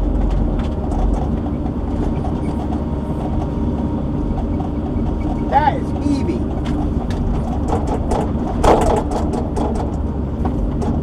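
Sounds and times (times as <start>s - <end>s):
diesel engine and hydraulics rumbling: 0.0s - 11.0s.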